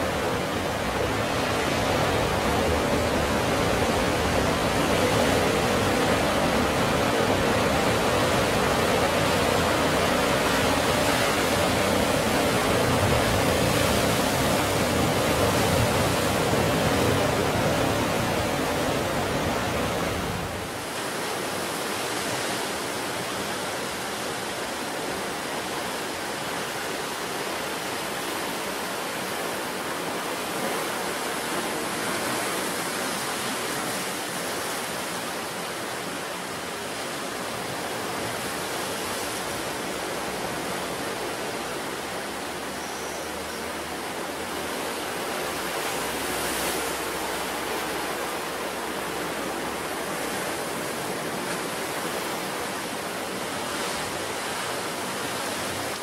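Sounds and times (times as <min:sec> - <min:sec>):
sea surf washing ashore: 0:00.0 - 0:56.0.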